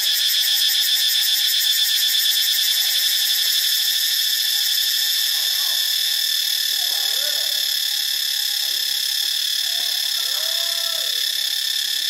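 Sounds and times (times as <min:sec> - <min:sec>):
cicadas singing: 0:00.0 - 0:12.0.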